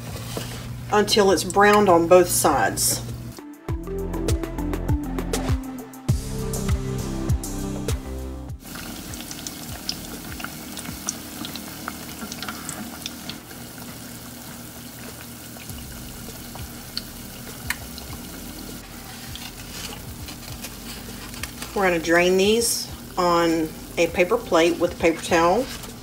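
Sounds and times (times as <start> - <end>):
oil sizzling with crackles: 0.0 - 3.4, 8.6 - 26.0
background music: 2.6 - 12.4, 13.4 - 26.0.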